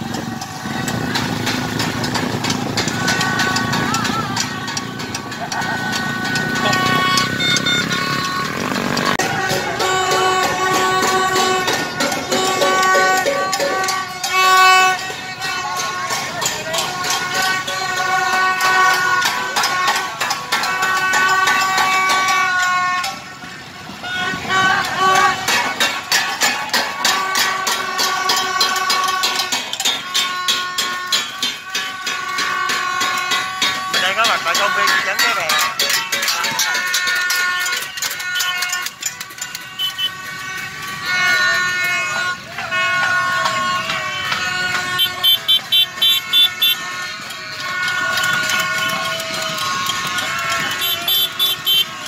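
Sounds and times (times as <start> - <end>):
metal pots being beaten: 0.0 - 52.0
party horns blowing: 0.0 - 52.0
street noise: 0.0 - 52.0.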